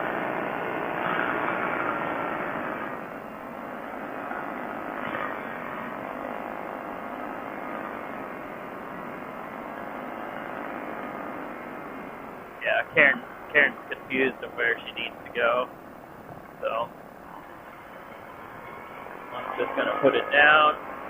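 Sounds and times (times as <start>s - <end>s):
ultralight engine and propeller: 0.0s - 21.0s.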